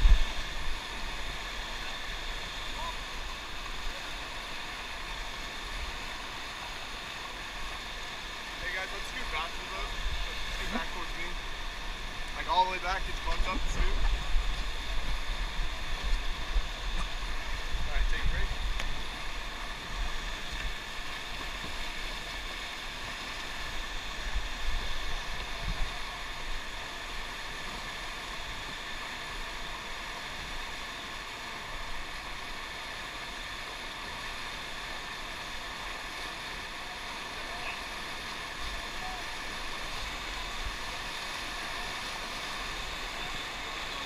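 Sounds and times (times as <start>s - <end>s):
faint steady whine: 0.0s - 44.0s
water rushing along hull: 0.0s - 44.0s.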